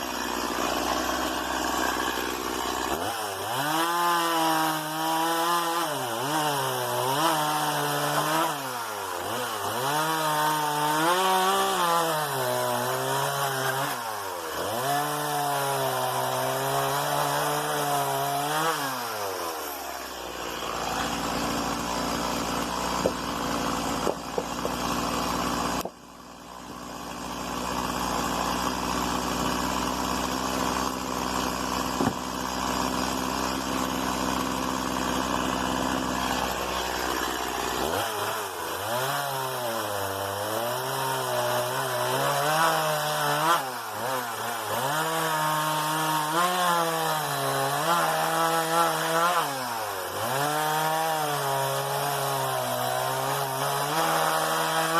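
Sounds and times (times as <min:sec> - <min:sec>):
chainsaw cutting wood: 0:00.0 - 0:54.9
chainsaw idling: 0:00.0 - 0:54.9.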